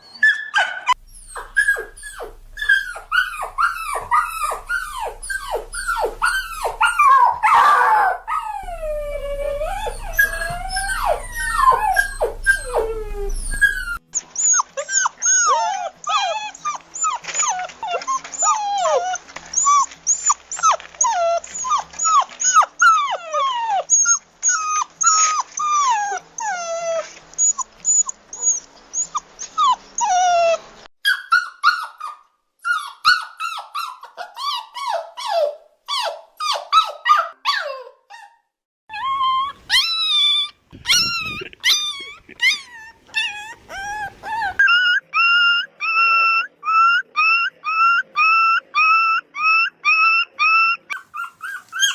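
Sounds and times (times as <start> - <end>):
puppies whining and crying: 0.0 - 51.9.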